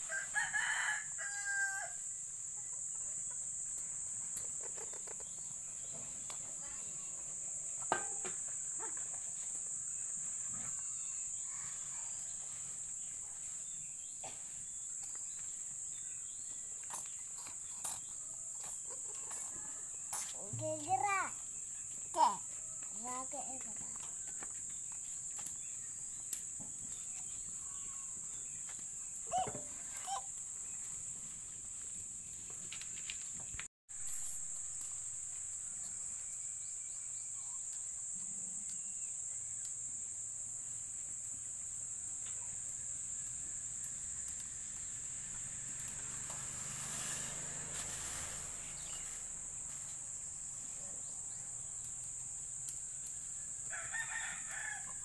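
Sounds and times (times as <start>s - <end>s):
insects droning high-pitched: 0.0s - 55.0s.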